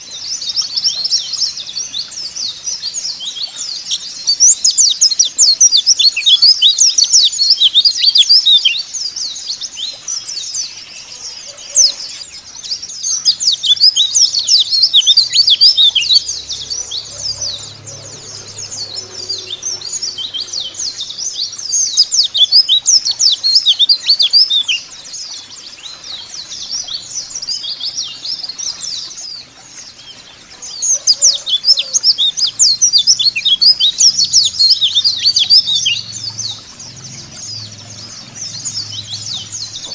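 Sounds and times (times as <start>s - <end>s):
birds twittering high chirps: 0.0s - 39.9s.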